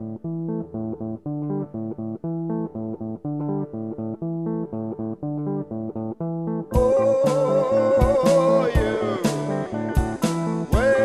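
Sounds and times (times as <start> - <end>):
guitar riff with bass line: 0.0 - 11.0.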